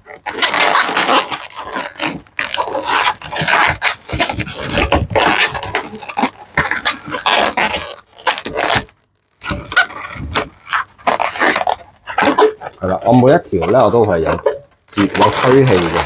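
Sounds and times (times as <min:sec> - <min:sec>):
balloons squeaking and rubbing: 0:00.0 - 0:16.0.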